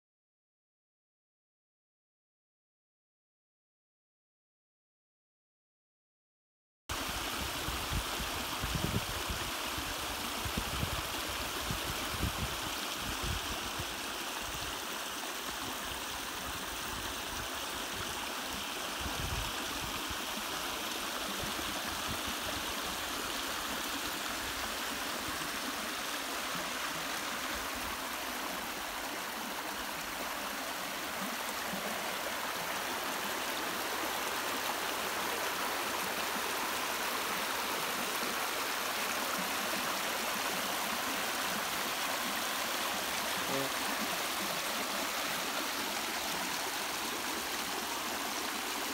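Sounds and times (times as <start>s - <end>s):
creek water rushing over rocks: 6.9s - 48.9s.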